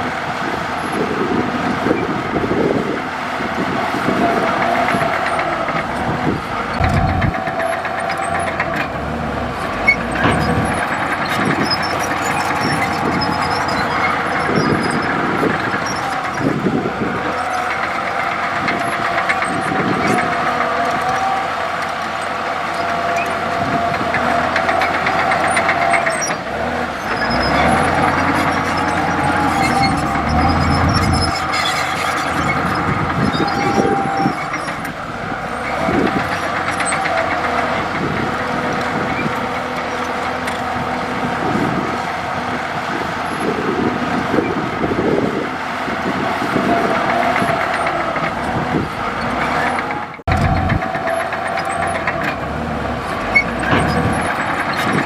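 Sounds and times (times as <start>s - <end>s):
bulldozer diesel engine whining: 0.0s - 55.0s.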